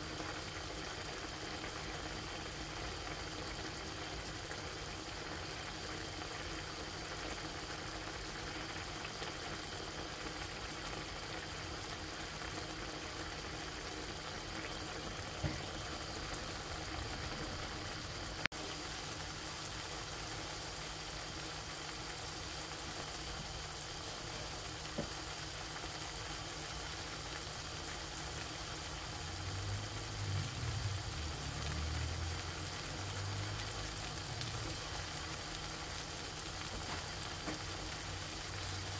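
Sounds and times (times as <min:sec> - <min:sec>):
broth bubbling and sizzling: 0:00.0 - 0:38.9.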